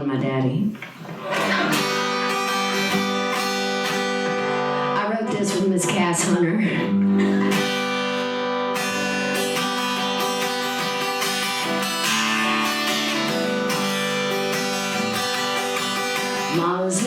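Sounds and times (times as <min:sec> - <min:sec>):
acoustic guitar strumming: 0:00.8 - 0:17.0.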